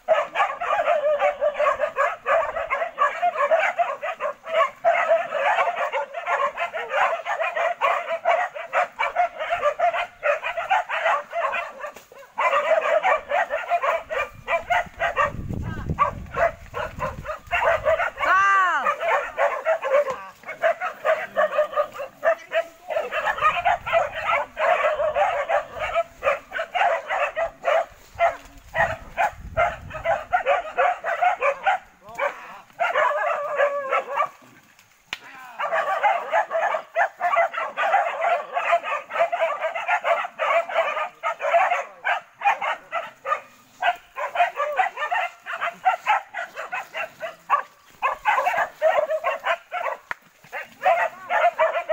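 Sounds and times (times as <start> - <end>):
dogs barking rapidly: 0.0 - 34.6, 35.5 - 51.9.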